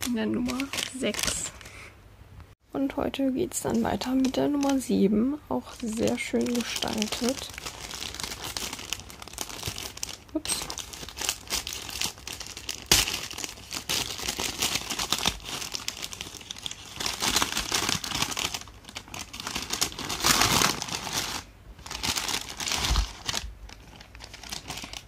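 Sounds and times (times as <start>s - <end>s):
paper bag crinkling: 0.0s - 1.8s, 3.7s - 4.9s, 5.6s - 25.0s.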